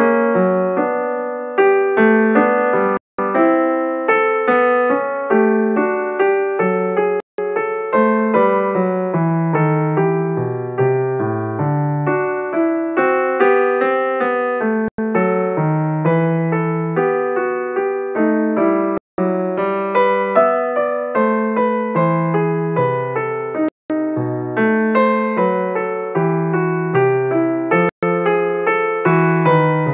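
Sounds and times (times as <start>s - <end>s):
piano music: 0.0s - 29.9s.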